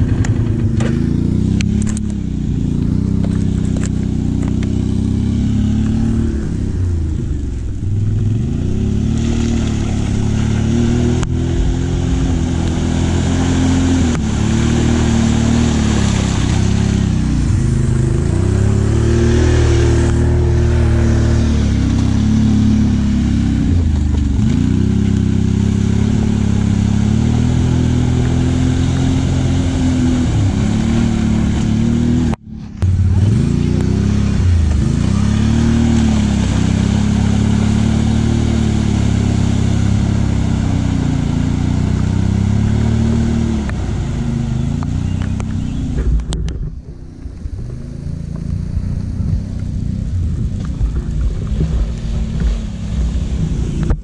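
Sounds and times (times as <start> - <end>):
atv engine revving: 0.0 - 54.0
rough noise: 0.0 - 54.0.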